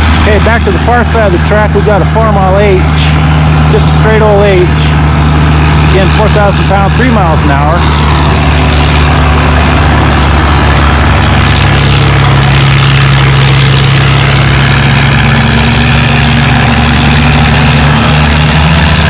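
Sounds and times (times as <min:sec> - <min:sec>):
tractor engine running under load: 0:00.0 - 0:19.0.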